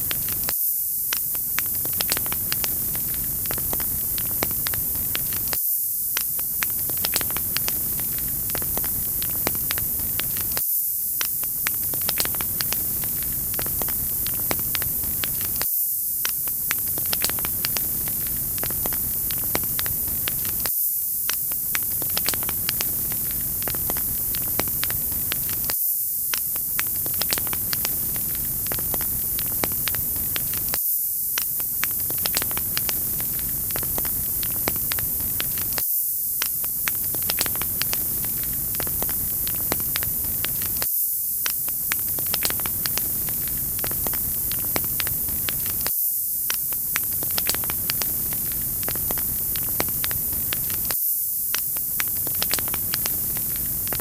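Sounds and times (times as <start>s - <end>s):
wood fire crackling and popping: 0.0s - 0.5s, 1.1s - 35.8s, 36.4s - 54.0s.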